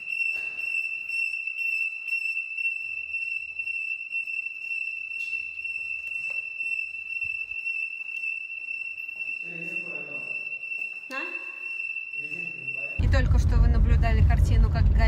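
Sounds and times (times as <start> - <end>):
fire alarm high tone: 0.0 - 13.8.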